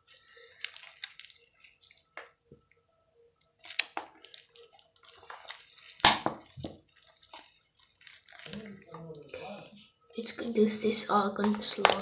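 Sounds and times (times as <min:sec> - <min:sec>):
slime squelching by hand: 0:00.0 - 0:02.7, 0:03.5 - 0:09.9, 0:11.3 - 0:12.0.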